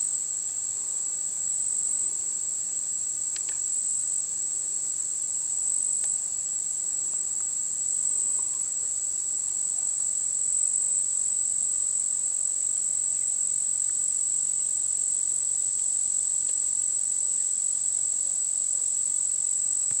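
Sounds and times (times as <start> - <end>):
insects trilling: 0.2 - 20.0.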